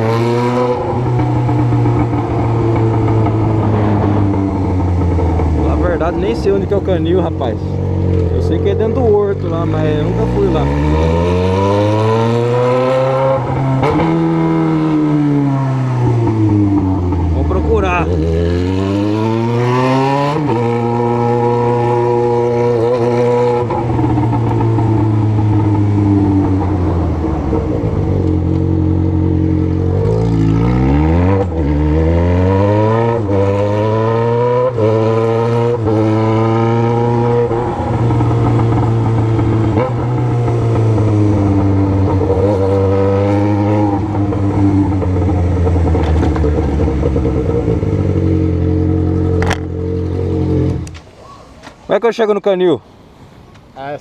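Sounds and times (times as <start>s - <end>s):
motorcycle engine revving through gears: 0.0s - 51.1s.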